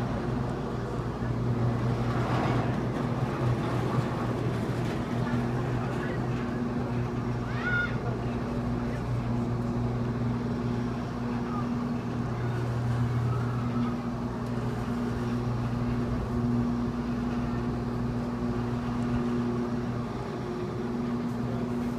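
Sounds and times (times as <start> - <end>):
low machinery hum: 0.0 - 21.9.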